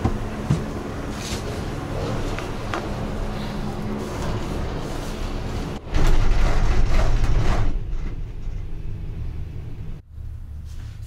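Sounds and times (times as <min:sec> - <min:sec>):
cable car low hum: 0:00.0 - 0:11.0
station machinery mechanical noise: 0:00.0 - 0:11.0.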